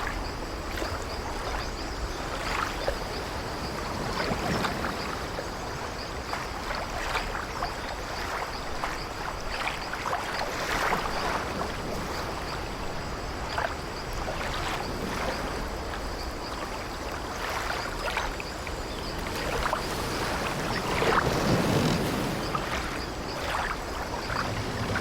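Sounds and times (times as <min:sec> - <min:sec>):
sea waves washing against ship: 0:00.0 - 0:25.0.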